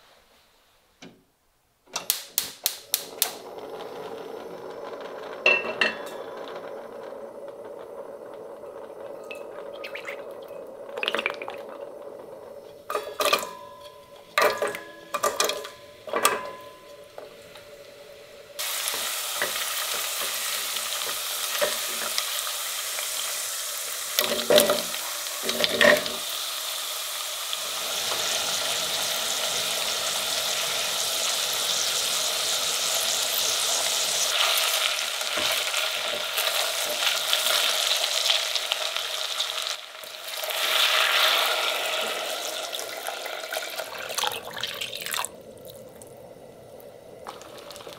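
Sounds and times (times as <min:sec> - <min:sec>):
vegetables sizzling in oil: 0:02.0 - 0:47.9
water hissing and bubbling in oil: 0:02.8 - 0:13.6, 0:14.2 - 0:47.9.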